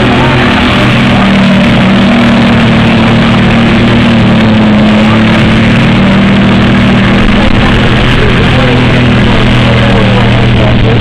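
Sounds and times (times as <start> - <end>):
truck engine running hard: 0.0 - 11.0
tyres churning through mud: 0.0 - 11.0.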